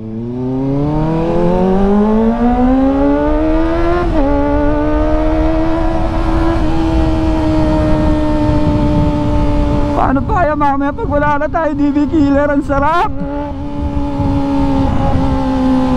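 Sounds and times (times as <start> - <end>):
motorcycle engine accelerating: 0.0 - 15.9
wind rush: 0.4 - 15.9.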